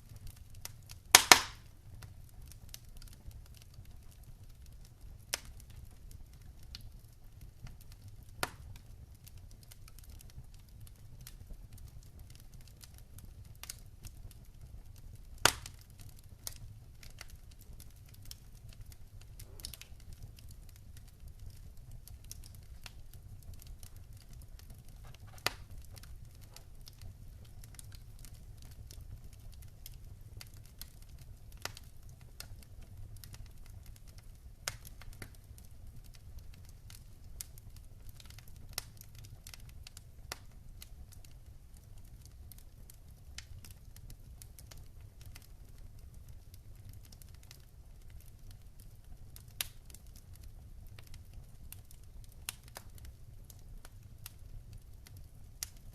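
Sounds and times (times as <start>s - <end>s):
low rumble of fire: 0.0s - 55.9s
wood fire crackling and popping: 0.0s - 55.9s.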